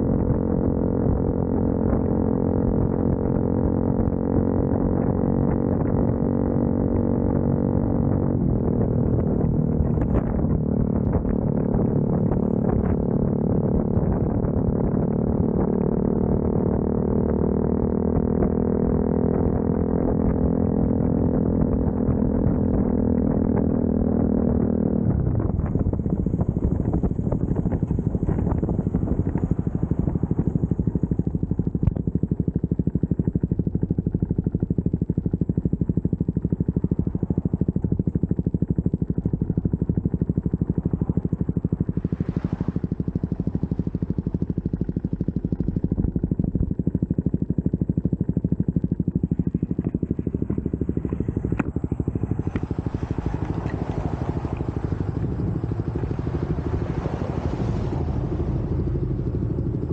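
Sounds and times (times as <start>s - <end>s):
motorcycle engine slowing down: 0.0s - 59.9s
wind noise on microphone: 0.0s - 59.9s.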